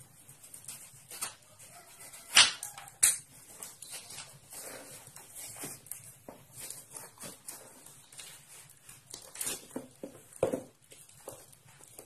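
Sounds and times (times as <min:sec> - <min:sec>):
rustling and crinkling packaging: 0:00.0 - 0:12.0.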